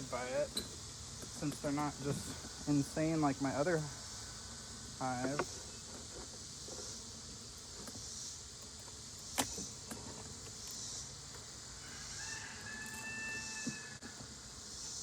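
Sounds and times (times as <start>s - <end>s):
bees humming: 0.0s - 15.0s
high insect chorus: 0.0s - 15.0s.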